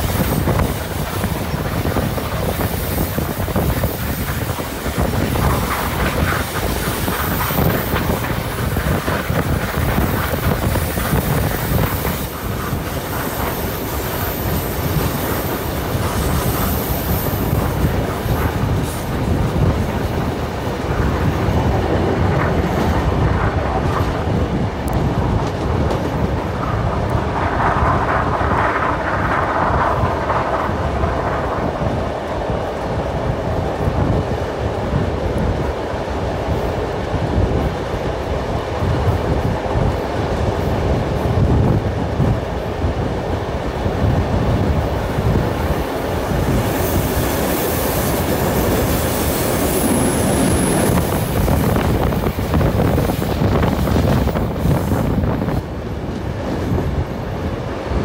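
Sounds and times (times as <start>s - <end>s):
train wheels clattering on track: 0.0s - 58.0s
wind rushing: 0.0s - 58.0s.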